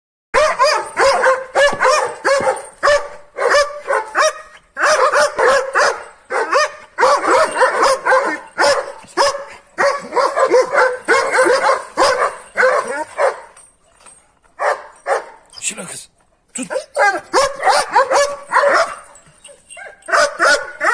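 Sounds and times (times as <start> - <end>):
dogs barking furiously: 0.3 - 15.6, 16.2 - 20.9.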